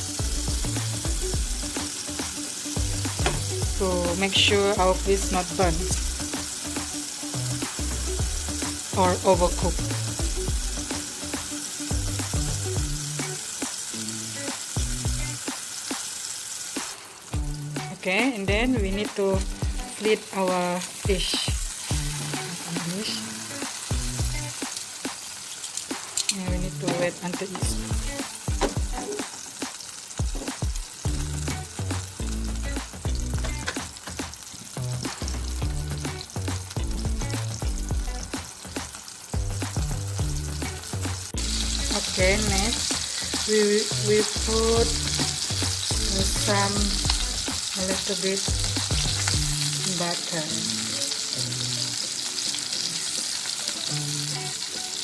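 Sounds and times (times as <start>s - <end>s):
background music: 0.0s - 55.0s
fish sizzling in hot oil: 0.0s - 55.0s
oil crackles and pops: 5.7s - 17.9s, 19.4s - 26.4s, 27.4s - 39.9s, 40.6s - 55.0s.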